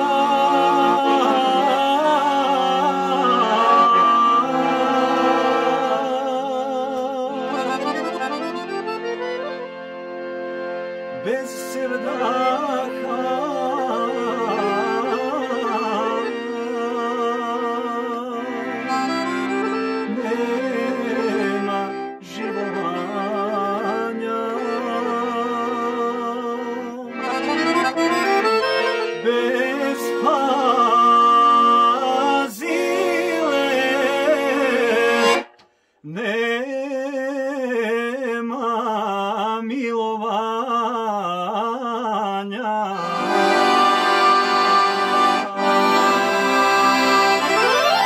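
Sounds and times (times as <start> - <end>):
man singing with vibrato: 0.0 - 9.8, 11.1 - 48.0
accordion melody: 0.0 - 36.5, 42.8 - 48.0.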